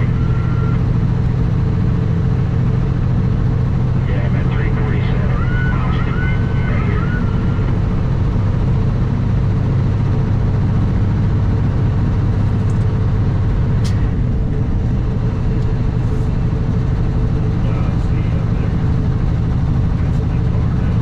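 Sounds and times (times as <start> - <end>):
truck diesel engine droning: 0.0 - 21.0.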